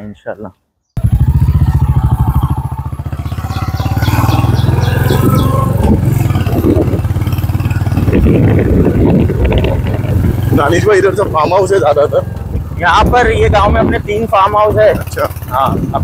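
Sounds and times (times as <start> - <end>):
motorbike engine running: 1.0 - 16.0.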